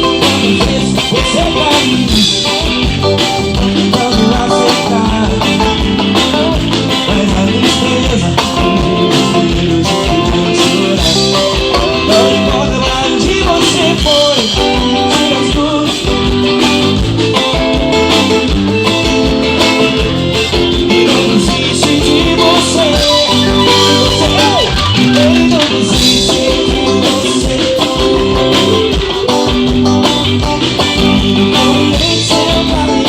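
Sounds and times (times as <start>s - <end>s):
bass: 0.0s - 33.0s
drums with steady beat: 0.0s - 33.0s
gospel band playing: 0.0s - 33.0s
guitar: 0.0s - 33.0s.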